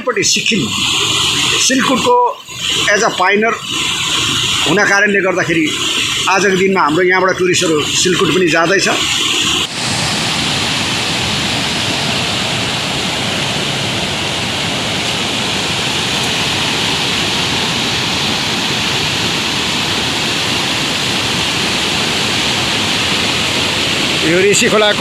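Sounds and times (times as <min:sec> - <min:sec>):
river water rushing: 0:00.7 - 0:25.0.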